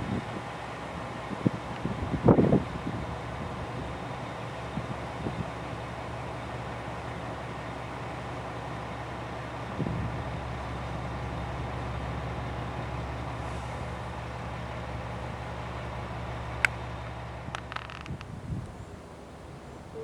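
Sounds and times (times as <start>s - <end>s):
diesel railcar engine idling: 0.0s - 20.0s.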